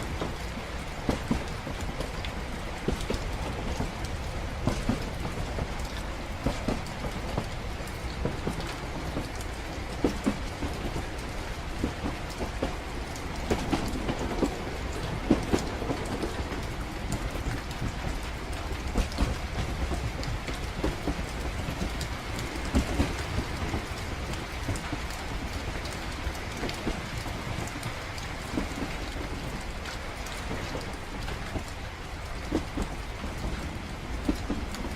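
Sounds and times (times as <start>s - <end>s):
knocks and clacks: 0.0s - 34.9s
rain pattering: 0.0s - 34.9s
train carriage rumble: 0.0s - 34.9s.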